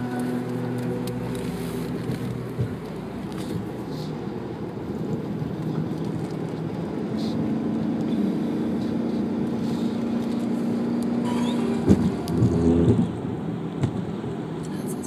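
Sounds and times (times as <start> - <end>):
car engine drone: 0.0 - 15.0
low road rumble: 0.0 - 15.0.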